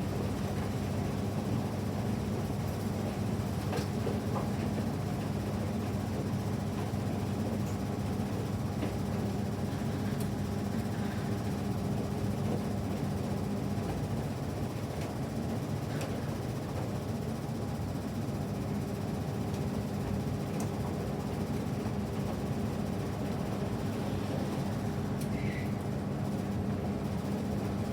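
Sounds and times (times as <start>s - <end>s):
washing machine hum: 0.0s - 27.9s.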